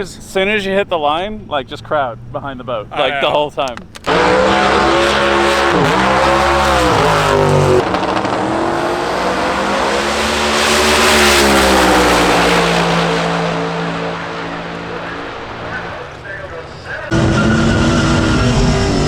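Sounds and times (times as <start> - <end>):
race car engine revving: 1.6 - 19.0.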